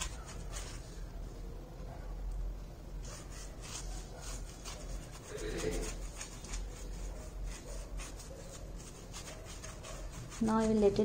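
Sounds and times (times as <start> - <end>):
paintbrush brushing varnish: 0.0 - 1.2, 3.0 - 11.0.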